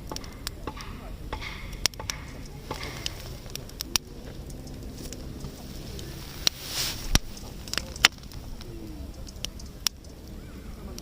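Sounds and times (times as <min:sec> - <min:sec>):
campfire crackling and popping: 0:00.0 - 0:11.0
low bird call: 0:00.0 - 0:11.0.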